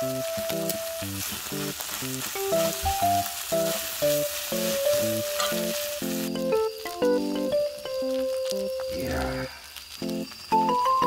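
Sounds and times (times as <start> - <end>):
music with plucked notes: 0.0 - 9.0, 10.0 - 11.0
rice sizzling on griddle: 0.0 - 11.0.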